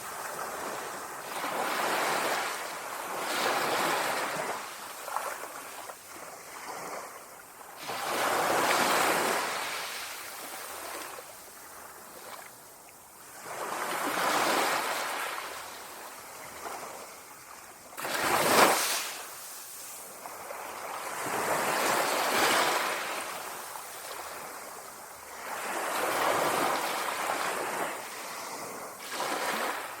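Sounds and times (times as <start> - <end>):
small waves lapping on shore: 0.0 - 30.0.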